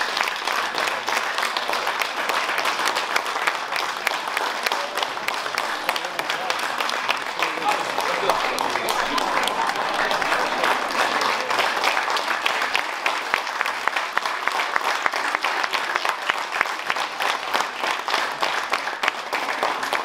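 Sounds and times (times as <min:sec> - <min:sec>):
audience applauding: 0:00.0 - 0:20.0
rhythmic clapping: 0:00.0 - 0:20.0.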